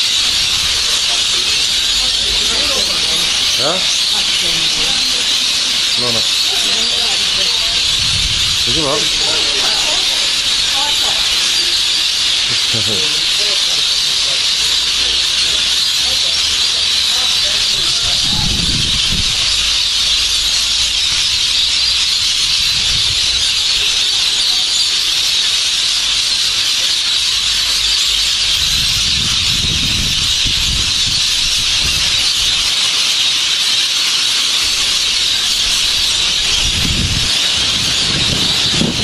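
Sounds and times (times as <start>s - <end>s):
insect chorus buzzing: 0.0s - 39.0s.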